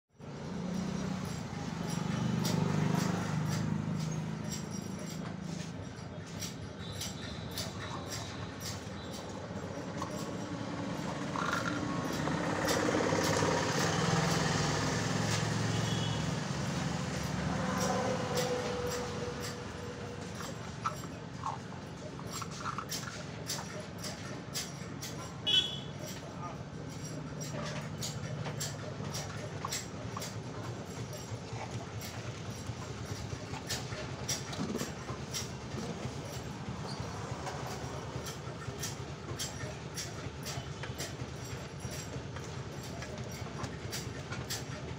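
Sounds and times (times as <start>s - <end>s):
motor engine running: 0.2s - 44.9s.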